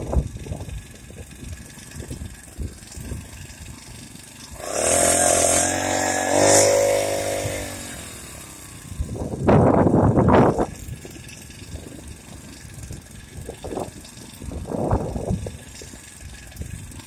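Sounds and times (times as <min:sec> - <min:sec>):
small engine at high revs: 0:00.0 - 0:17.0.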